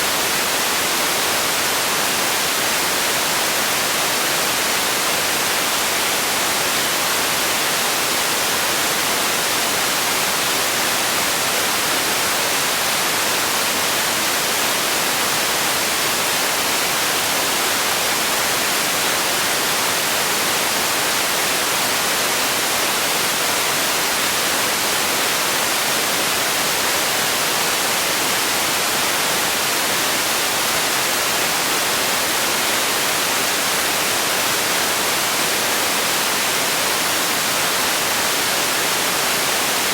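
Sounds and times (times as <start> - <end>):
steady static-like hiss: 0.0 - 39.9.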